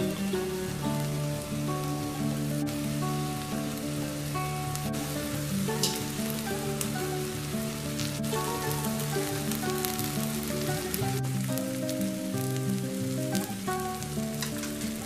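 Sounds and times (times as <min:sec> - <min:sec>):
food sizzling in a saucepan: 0:00.0 - 0:15.0
instrumental background music: 0:00.0 - 0:15.0.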